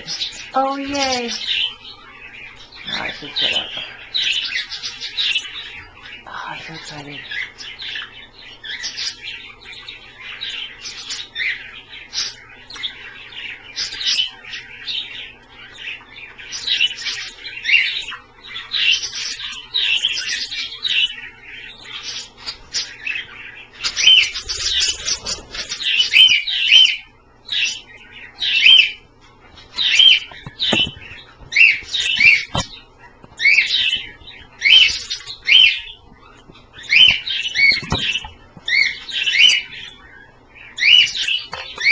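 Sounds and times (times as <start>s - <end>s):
budgies and cockatiels chirping: 0.0s - 41.9s.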